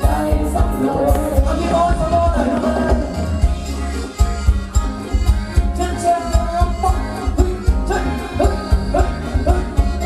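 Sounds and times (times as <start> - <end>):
live band playing dance music: 0.0 - 10.0
steady drum beat: 0.0 - 10.0.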